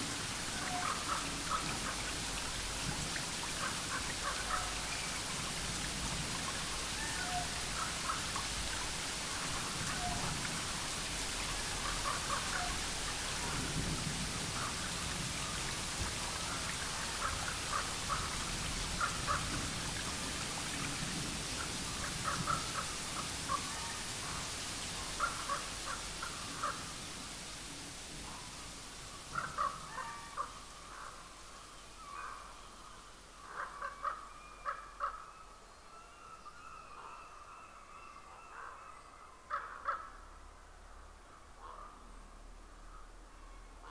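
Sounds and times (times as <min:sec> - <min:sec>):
steady rain-like hiss: 0:00.0 - 0:43.9.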